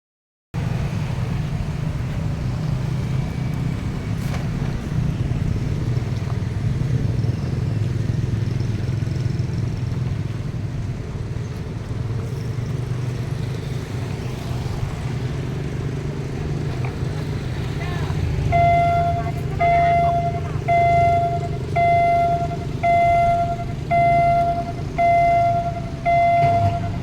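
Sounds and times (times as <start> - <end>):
low engine rumble: 0.6 - 27.0.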